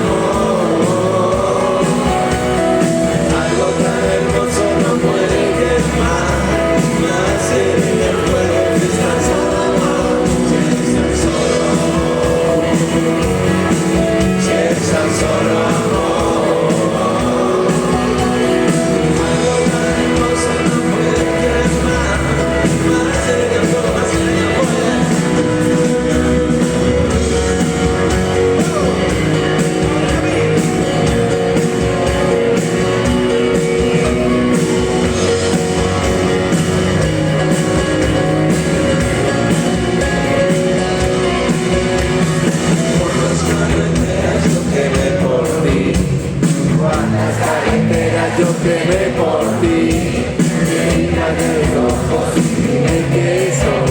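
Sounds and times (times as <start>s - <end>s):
drums: 0.0s - 53.9s
electric guitars: 0.0s - 53.9s
person singing: 0.0s - 53.9s.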